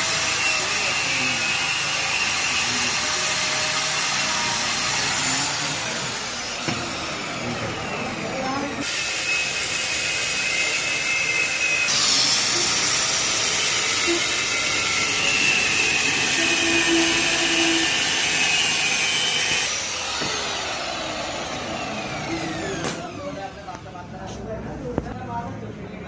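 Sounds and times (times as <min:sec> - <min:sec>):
power tool whining: 0:00.0 - 0:23.7.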